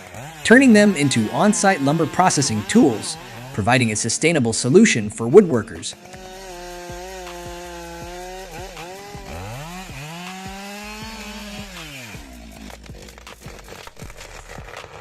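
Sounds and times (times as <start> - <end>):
chainsaw engine at high revs: 0.0 - 15.0.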